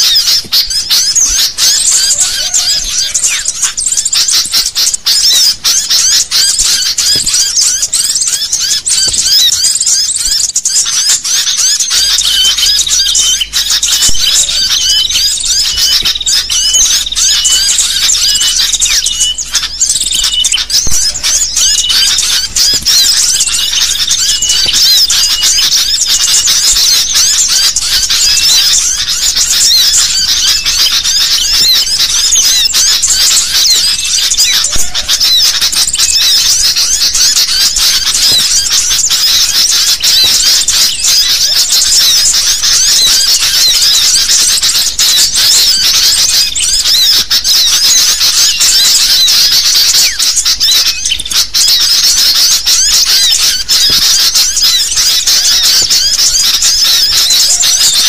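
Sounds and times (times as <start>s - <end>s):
birds chirping and whistling: 0.0s - 58.0s.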